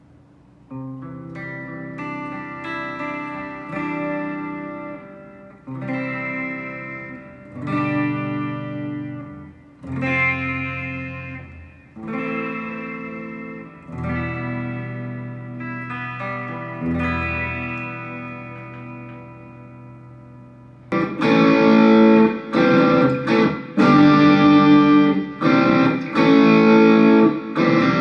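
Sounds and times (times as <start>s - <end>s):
electric guitar chords ringing: 0.7s - 28.0s.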